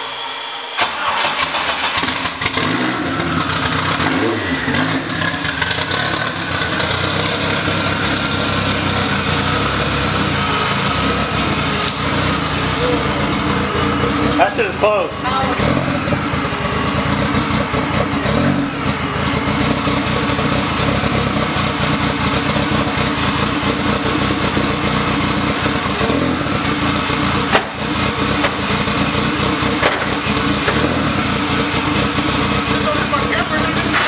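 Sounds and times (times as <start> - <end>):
car engine idling: 0.1 - 34.0.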